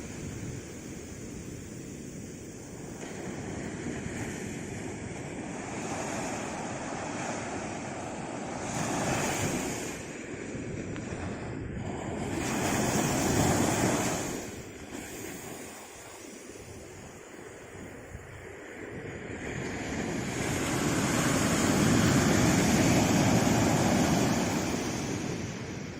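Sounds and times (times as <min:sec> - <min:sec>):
sea waves washing in: 0:00.0 - 0:25.9
surf surges: 0:00.0 - 0:25.9.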